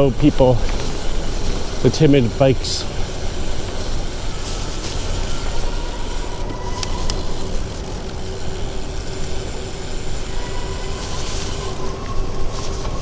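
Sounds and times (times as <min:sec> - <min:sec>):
street traffic rumble: 0:00.0 - 0:13.0
faint clicks: 0:00.6 - 0:13.0.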